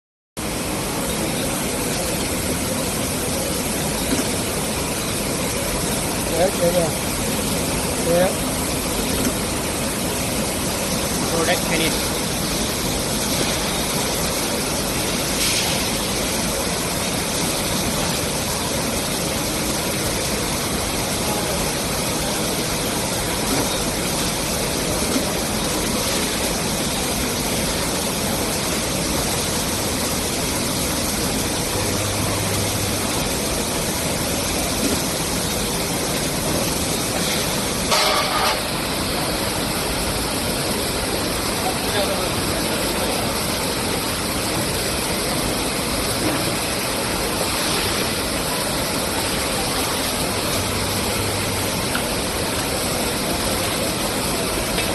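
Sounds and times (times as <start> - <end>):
can filling machinery running: 0.4 - 54.9
machinery clatter: 0.6 - 54.9.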